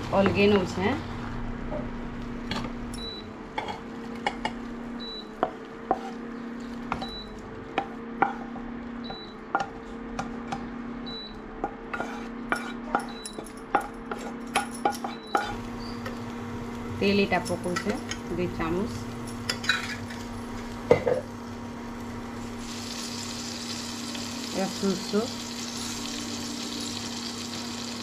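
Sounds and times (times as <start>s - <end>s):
induction cooktop hum: 0.0s - 28.0s.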